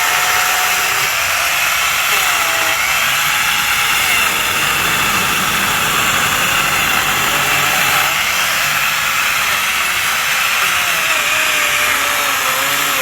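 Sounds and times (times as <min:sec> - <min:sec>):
chainsaw attachment sawing wood: 0:00.0 - 0:13.0.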